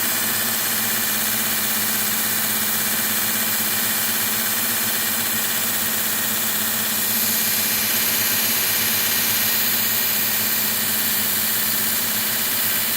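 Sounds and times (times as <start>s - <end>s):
electric motor hum: 0.0s - 12.9s
grinder belt hiss: 0.0s - 12.9s.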